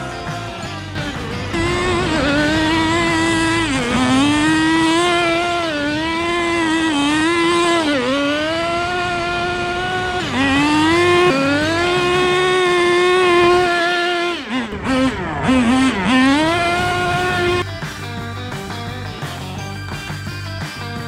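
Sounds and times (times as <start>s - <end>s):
model car engine buzzing at high revs: 0.0s - 17.7s.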